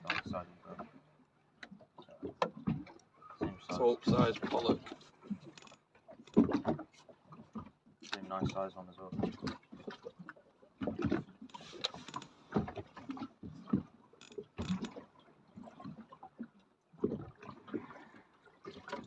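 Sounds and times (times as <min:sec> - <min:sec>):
water slapping against boat hull: 0:00.0 - 0:19.0.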